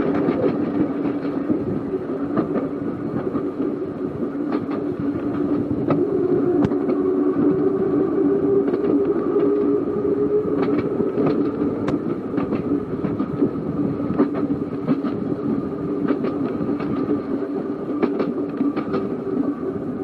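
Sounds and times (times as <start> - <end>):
tram motor hum: 0.0 - 20.0
wheels clicking on rails: 0.0 - 20.0.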